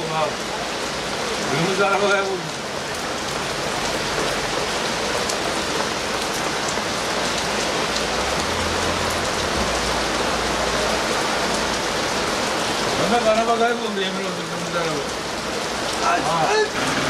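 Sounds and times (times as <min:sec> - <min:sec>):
heavy rain hissing on road: 0:00.0 - 0:17.0.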